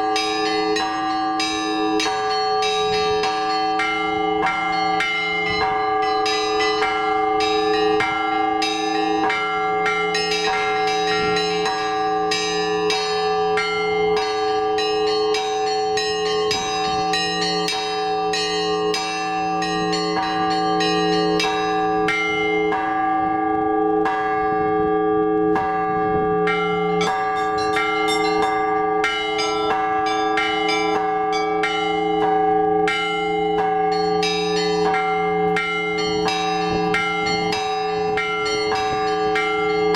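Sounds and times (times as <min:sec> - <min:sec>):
small high bells struck rapidly: 0:00.0 - 0:22.7, 0:25.7 - 0:39.9
large deep bells ringing: 0:00.0 - 0:39.9.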